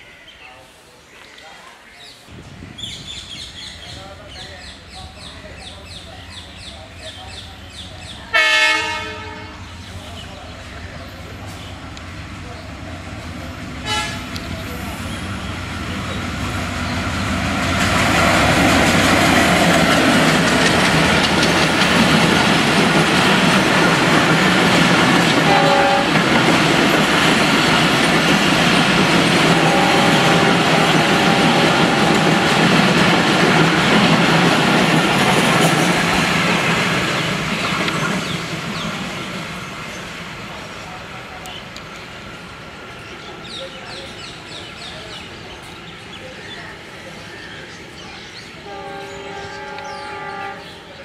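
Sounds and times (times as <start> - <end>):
diesel locomotive passing: 2.4 - 51.0
train coaches clattering over rails: 3.3 - 51.0.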